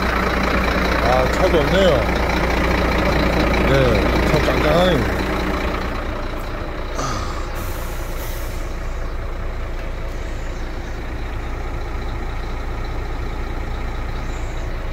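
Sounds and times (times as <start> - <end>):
truck diesel engine idling: 0.0 - 14.9.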